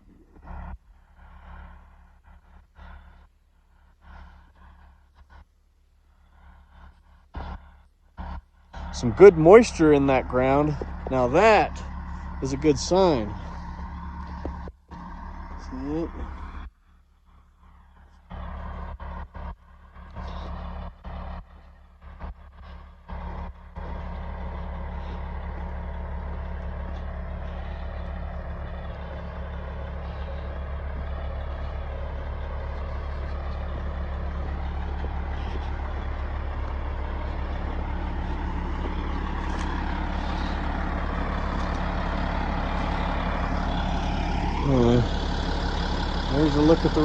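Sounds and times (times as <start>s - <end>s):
bulldozer diesel engine running: 0.0s - 47.0s.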